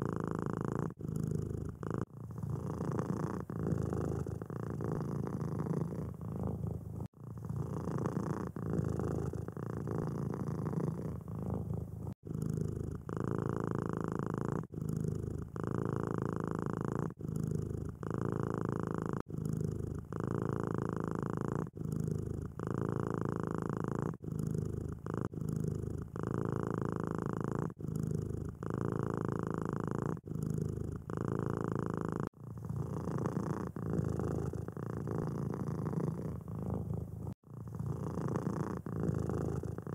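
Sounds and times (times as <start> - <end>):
cats purring: 0.0 - 39.9.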